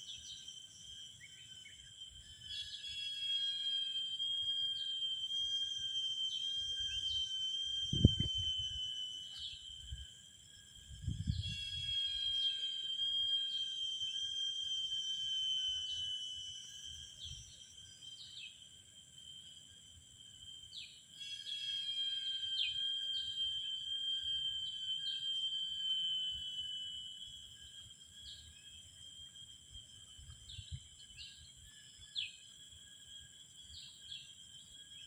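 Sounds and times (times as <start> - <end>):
insects calling: 0.0 - 35.0.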